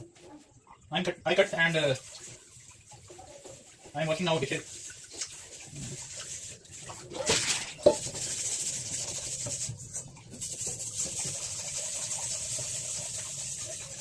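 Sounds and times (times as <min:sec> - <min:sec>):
dishes rubbing and scraping: 0:01.3 - 0:14.0.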